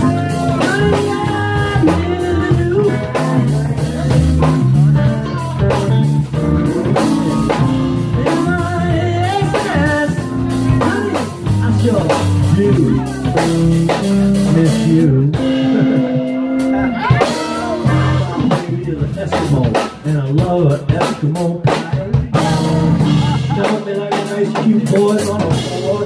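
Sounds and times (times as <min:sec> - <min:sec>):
drums keeping a steady beat: 0:00.0 - 0:26.0
electric guitar: 0:00.0 - 0:26.0
keyboard: 0:00.0 - 0:26.0.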